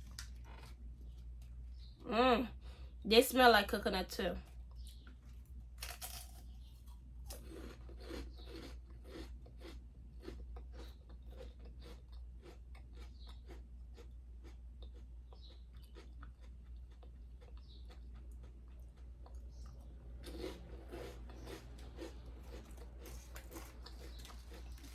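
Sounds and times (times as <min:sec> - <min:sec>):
crunchy food being chewed: 0:00.0 - 0:01.6, 0:04.5 - 0:24.9.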